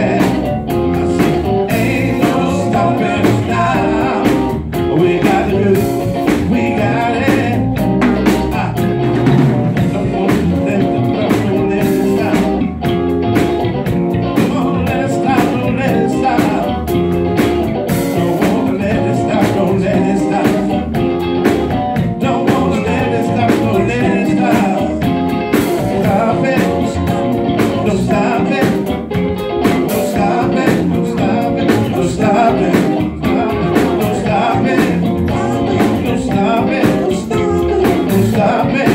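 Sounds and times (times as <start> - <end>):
man singing: 0.0 - 12.7, 14.2 - 21.1, 21.9 - 38.9
bass guitar: 0.0 - 38.9
drum kit: 0.0 - 38.9
live blues-rock band: 0.0 - 38.9.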